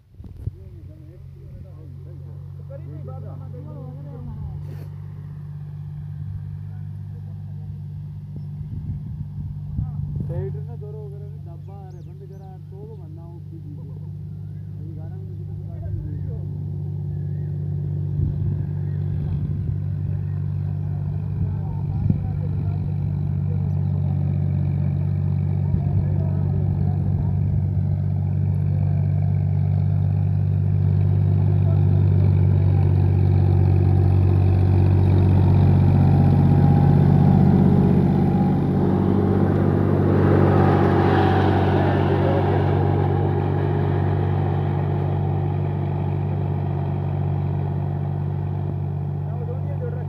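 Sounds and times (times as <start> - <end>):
tractor diesel engine under load: 0.0 - 50.0.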